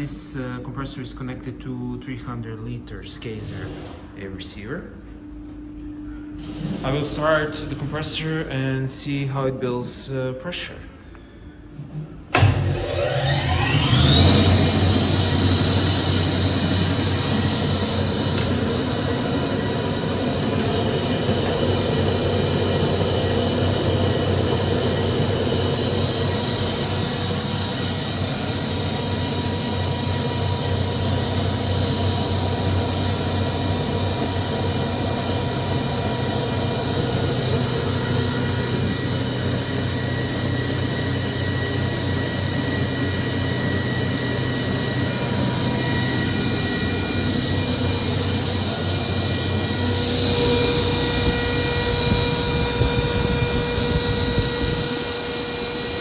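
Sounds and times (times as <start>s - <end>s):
air compressor whining: 3.0s - 56.0s.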